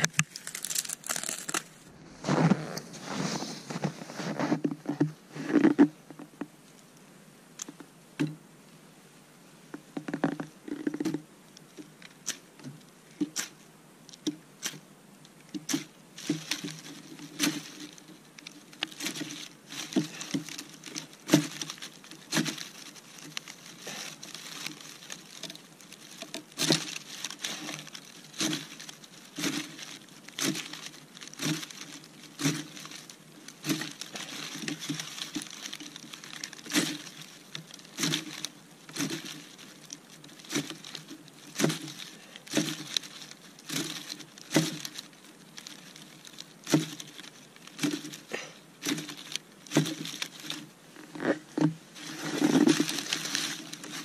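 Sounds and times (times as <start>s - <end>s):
bark and twigs crackling: 0.0s - 5.0s, 10.4s - 54.0s.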